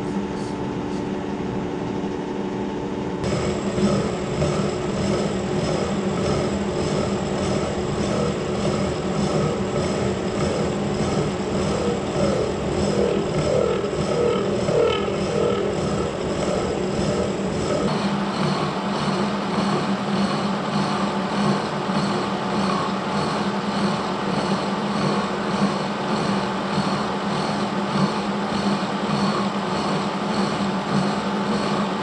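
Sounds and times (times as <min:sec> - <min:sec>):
milling machine drone: 0:02.6 - 0:32.0.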